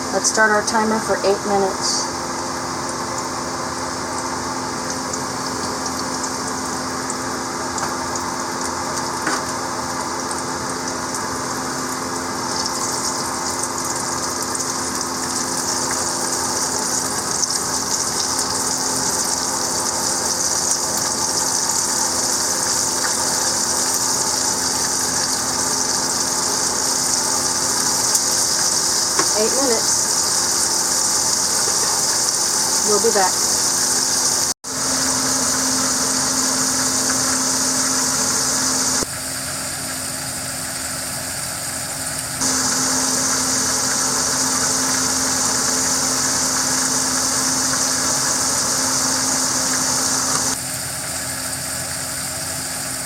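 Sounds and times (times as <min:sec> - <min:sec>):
chicken sizzling in hot oil: 0:00.0 - 0:53.0
stove vent fan hum: 0:00.0 - 0:53.0.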